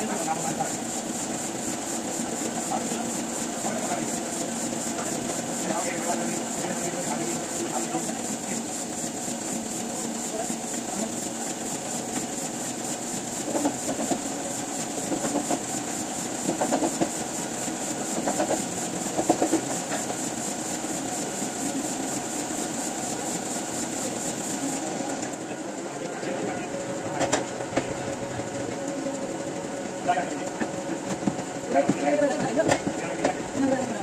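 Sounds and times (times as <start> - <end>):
printing press clattering: 0.0 - 34.0.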